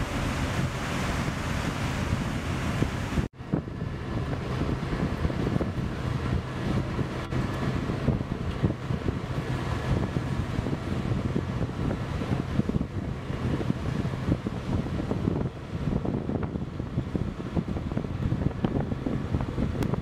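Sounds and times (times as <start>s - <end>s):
vehicle engine humming: 0.0s - 20.0s
wind buffeting microphone: 0.0s - 20.0s.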